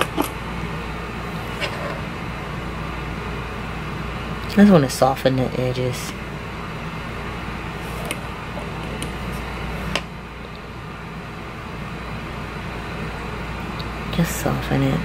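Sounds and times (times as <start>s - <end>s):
room noise hum: 0.0s - 15.0s.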